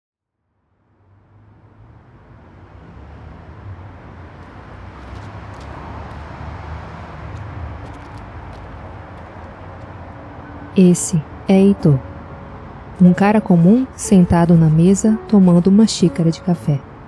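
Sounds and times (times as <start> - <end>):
road traffic rumble: 0.8 - 17.0.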